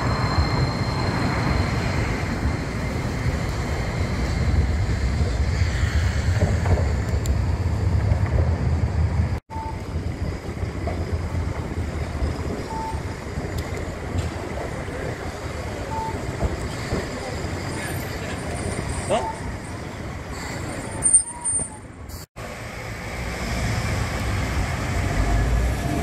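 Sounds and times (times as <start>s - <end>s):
city street noise: 0.0s - 26.0s.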